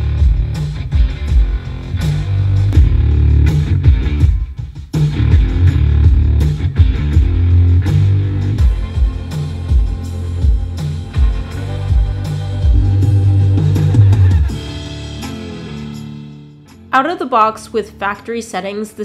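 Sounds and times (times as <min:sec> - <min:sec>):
rock music through car speakers: 0:00.0 - 0:16.6.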